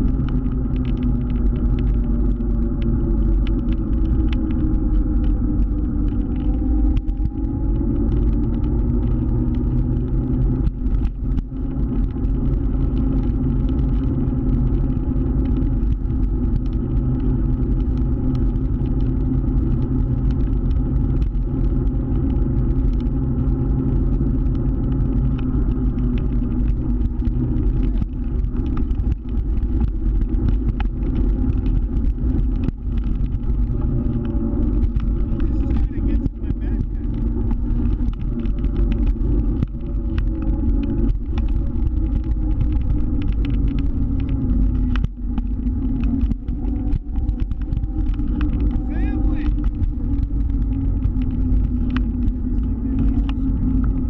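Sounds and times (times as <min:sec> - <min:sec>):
heavy low rumble: 0:00.0 - 0:54.0.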